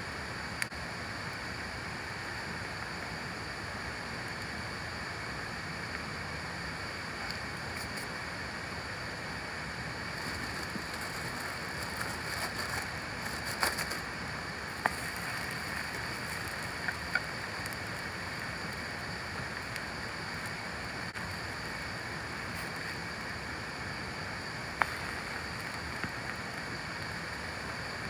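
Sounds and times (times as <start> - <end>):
steady rain: 0.1 - 28.0.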